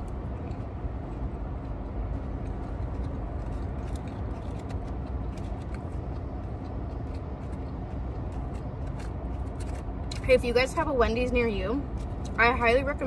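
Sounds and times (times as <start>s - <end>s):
low rumble in car cabin: 0.0s - 13.0s.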